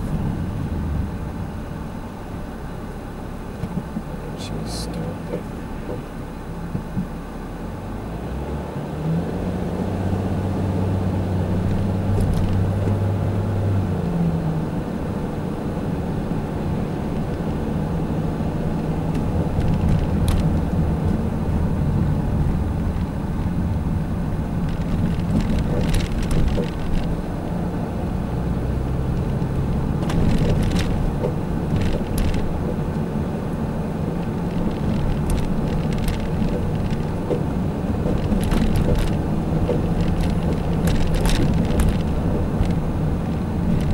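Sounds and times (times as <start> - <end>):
road rumble: 0.0 - 43.9
vehicle engine hum: 0.0 - 43.9.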